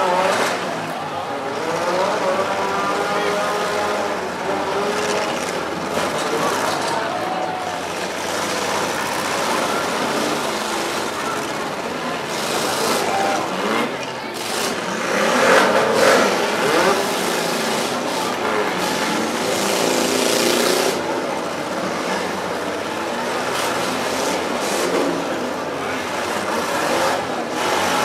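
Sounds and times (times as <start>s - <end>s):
car engines revving: 0.0s - 28.0s
crowd voices: 0.0s - 28.0s.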